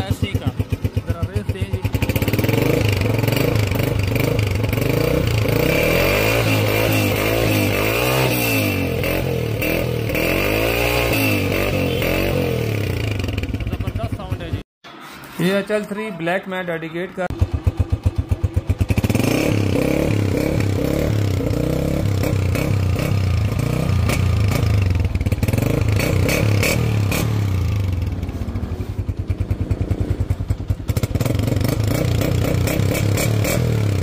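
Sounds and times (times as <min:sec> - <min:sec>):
motorcycle engine revving: 0:00.0 - 0:14.6, 0:17.3 - 0:34.0.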